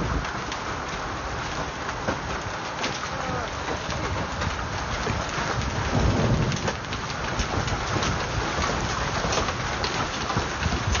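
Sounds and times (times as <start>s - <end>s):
hail and rain falling: 0.0s - 11.0s
hailstones clicking on car: 0.0s - 11.0s
wind rumble on microphone: 0.0s - 11.0s.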